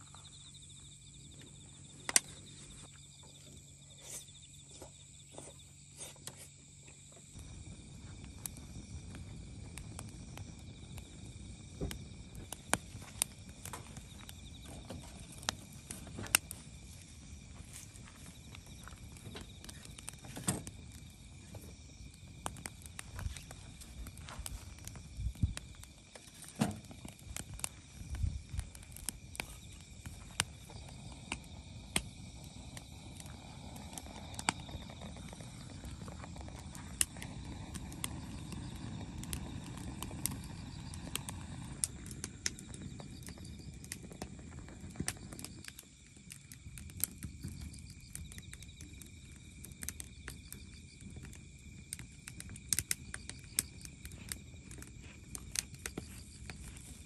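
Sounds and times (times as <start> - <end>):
firewood crackling and popping: 0.0 - 57.0
low rush of fire burning: 0.0 - 57.0.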